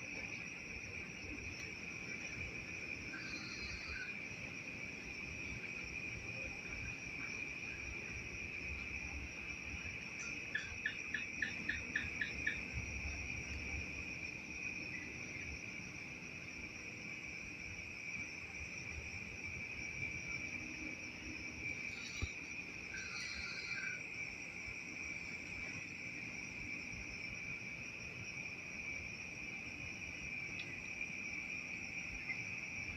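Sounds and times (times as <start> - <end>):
insect chorus trilling: 0.0 - 32.9.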